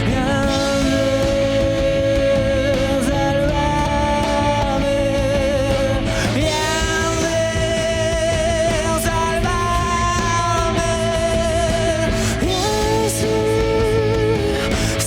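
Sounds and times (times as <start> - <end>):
dense low end: 0.0 - 15.0
distorted lead guitar note: 0.0 - 15.0.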